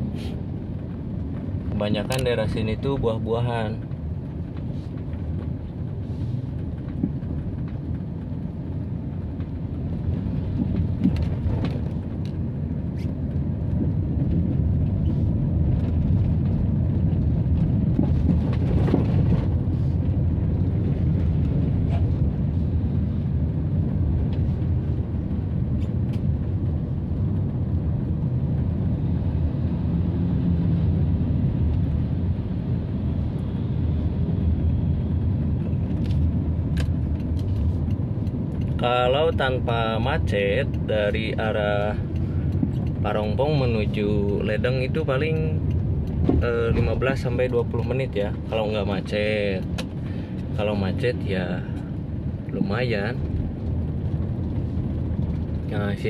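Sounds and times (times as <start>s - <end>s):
passing motorbikes and traffic: 0.0s - 56.0s
vehicle road noise rumble: 0.0s - 56.0s.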